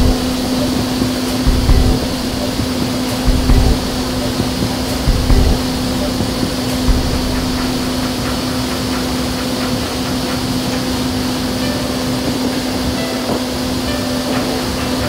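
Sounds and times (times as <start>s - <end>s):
constant low hum: 0.0s - 15.0s
wind tunnel air rushing: 0.0s - 15.0s.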